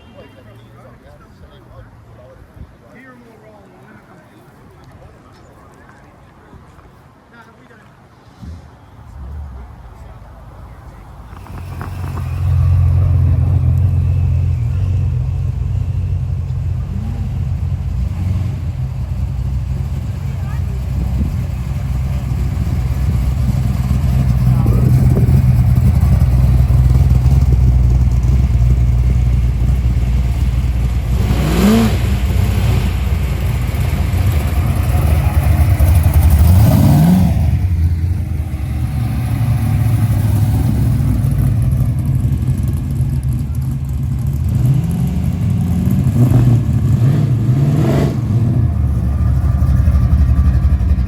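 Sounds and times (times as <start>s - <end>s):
car engine idling and revving: 8.4s - 51.0s.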